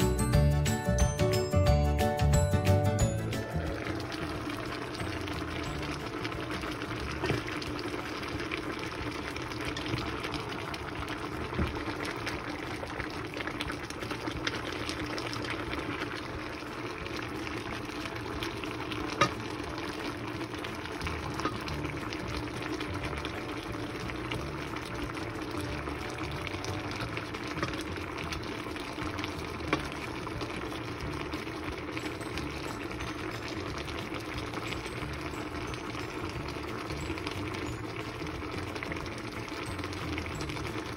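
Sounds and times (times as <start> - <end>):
pot bubbling: 0.0 - 40.9.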